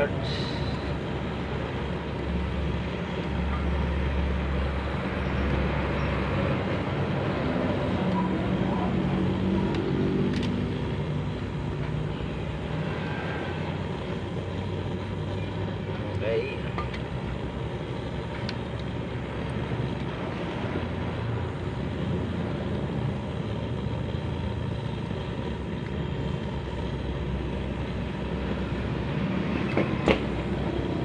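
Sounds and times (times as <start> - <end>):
steady background noise: 0.0 - 31.0
vehicle engine humming: 0.0 - 31.0.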